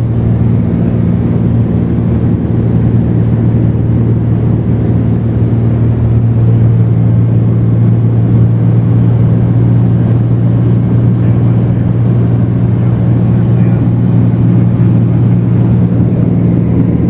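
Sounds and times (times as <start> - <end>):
airplane engine droning in cabin: 0.0 - 17.0.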